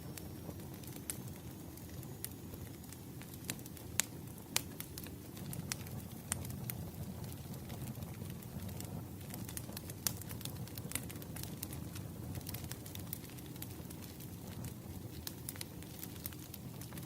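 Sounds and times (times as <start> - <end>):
burning logs crackling and popping: 0.0 - 17.0
wood fire rumbling: 0.0 - 17.0.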